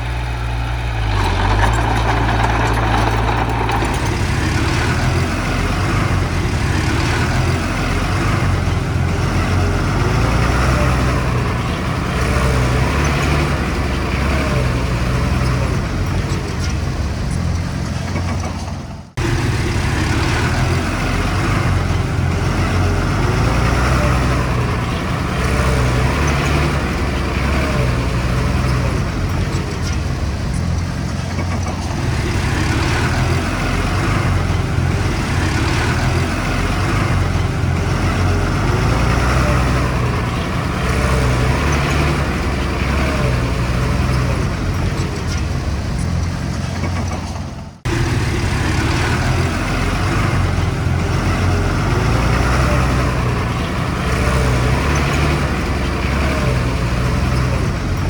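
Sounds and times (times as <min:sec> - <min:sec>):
heavy machinery diesel engine rumbling: 0:00.0 - 0:58.0.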